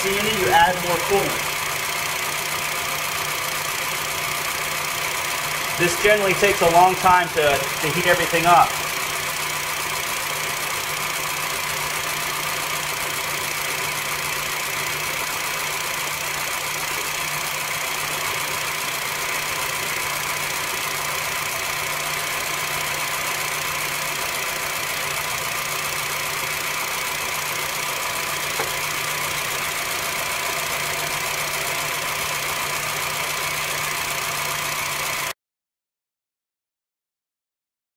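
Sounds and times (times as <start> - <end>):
car engine idling: 0.0 - 35.3.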